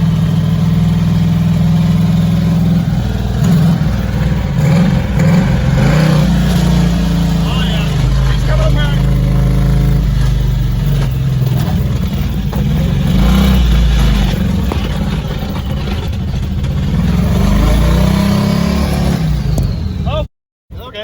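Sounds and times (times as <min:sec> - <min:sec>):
heavy rapid engine knocking: 0:00.0 - 0:20.1
engine running at full throttle: 0:00.0 - 0:20.2.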